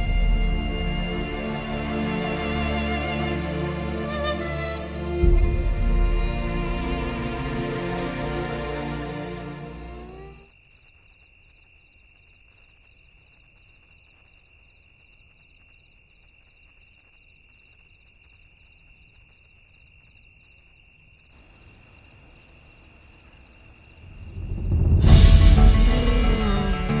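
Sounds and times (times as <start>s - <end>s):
insect chirring: 0.0s - 6.6s, 9.7s - 24.8s.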